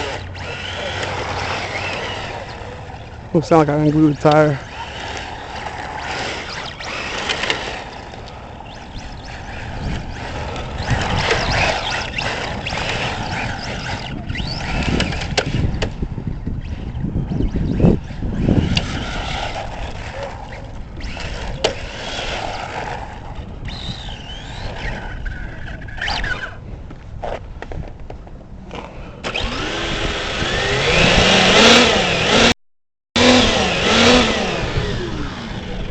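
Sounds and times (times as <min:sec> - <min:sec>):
faint motor whine: 0:00.0 - 0:32.5, 0:33.2 - 0:35.9
tires rolling over rough ground: 0:00.0 - 0:32.5.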